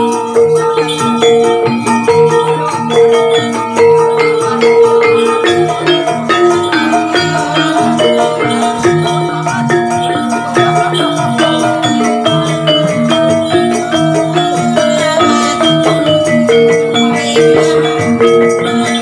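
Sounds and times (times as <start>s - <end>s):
metallophones ringing notes: 0.0s - 19.0s
rattling percussion: 0.0s - 19.0s.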